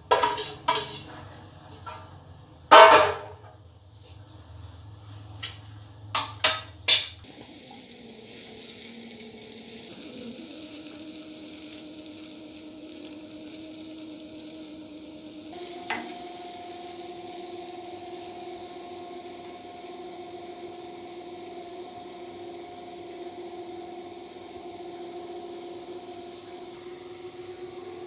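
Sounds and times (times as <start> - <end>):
food sizzling in pan: 0.0 - 3.4, 4.0 - 28.0.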